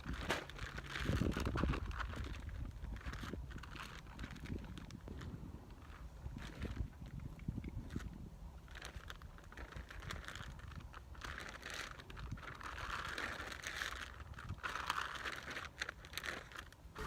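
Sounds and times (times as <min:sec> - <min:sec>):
feed sack rustling: 0:00.0 - 0:07.2, 0:07.8 - 0:17.0.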